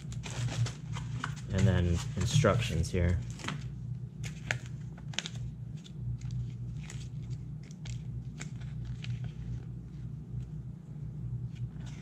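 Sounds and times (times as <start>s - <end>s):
paper pages rustling: 0.0s - 10.1s
steady low hum: 0.0s - 12.0s.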